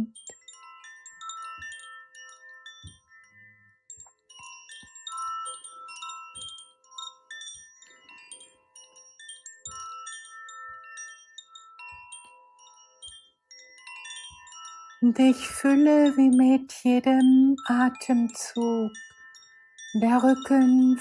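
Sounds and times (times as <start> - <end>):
soft chimes ringing: 0.0 - 21.0.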